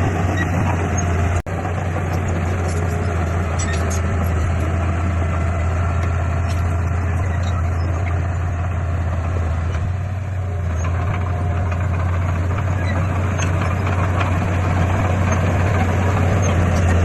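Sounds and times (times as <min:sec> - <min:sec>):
heavy machinery diesel engine drone: 0:00.0 - 0:17.0.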